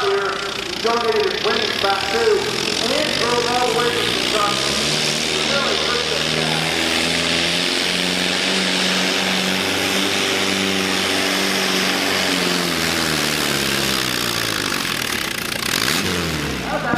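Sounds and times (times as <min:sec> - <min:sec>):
tractor engine under load: 0:00.0 - 0:16.9.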